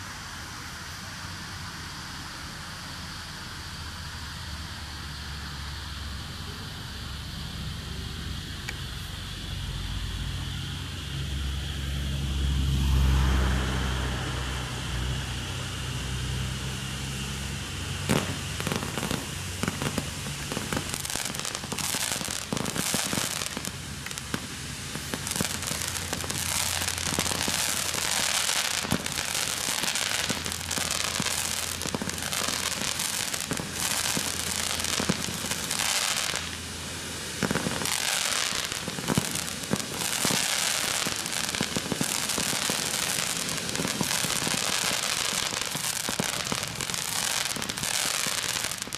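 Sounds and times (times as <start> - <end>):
fireworks crackling and popping: 0.0 - 48.9
ground fountain fireworks hissing: 0.0 - 48.9.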